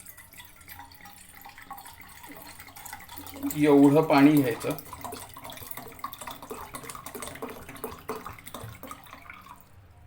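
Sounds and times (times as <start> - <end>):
water running into a pot: 0.0 - 9.9.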